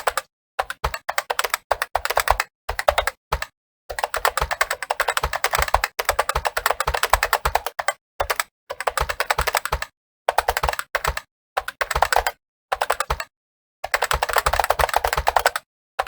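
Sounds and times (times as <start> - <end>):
typing on a computer keyboard: 0.0 - 15.7.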